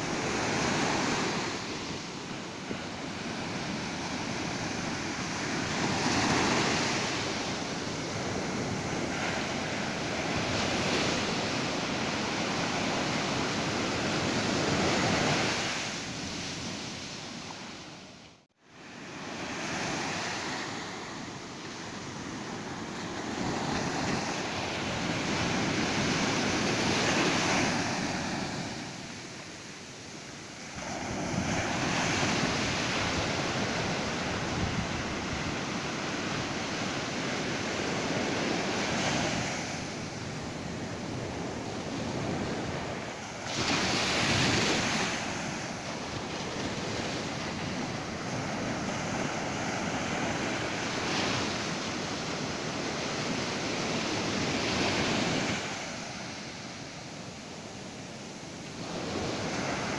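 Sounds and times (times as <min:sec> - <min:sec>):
waves crashing on a beach: 0:00.0 - 0:59.9.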